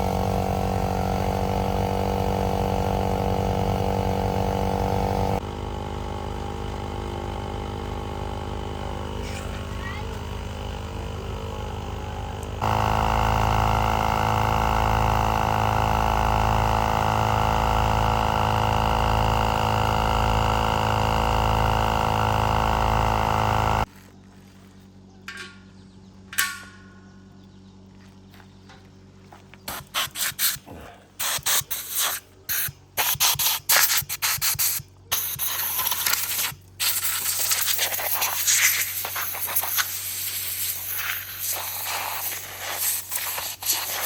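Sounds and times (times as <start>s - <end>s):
motor-driven machine running: 0.0s - 26.4s, 35.0s - 44.0s.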